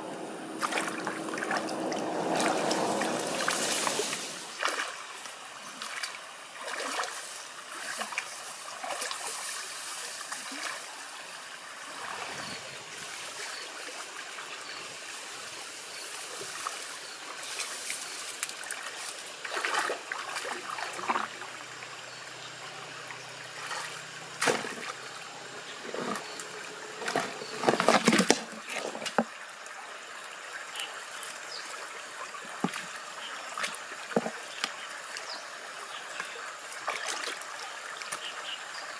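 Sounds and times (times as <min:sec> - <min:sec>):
shallow water trickling and splashing: 0:00.2 - 0:38.9.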